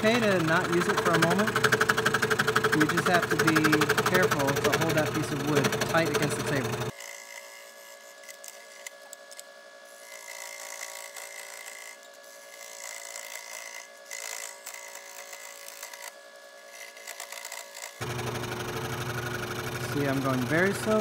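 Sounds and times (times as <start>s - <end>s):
scroll saw cutting wood: 0.0s - 21.0s.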